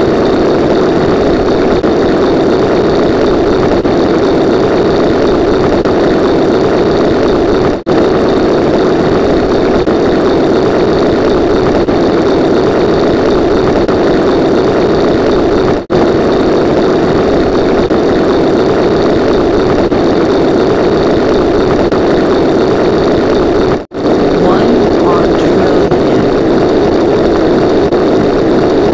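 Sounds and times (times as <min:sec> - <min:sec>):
engine-like drone: 0:00.0 - 0:28.9.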